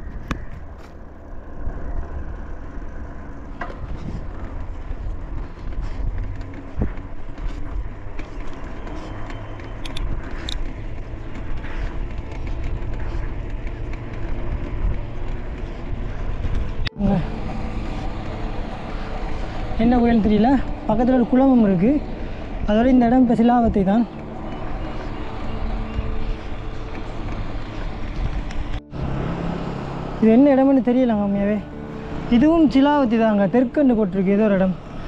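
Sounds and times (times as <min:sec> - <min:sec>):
wind rumble on microphone: 0:00.0 - 0:29.9
road running noise: 0:00.0 - 0:35.0.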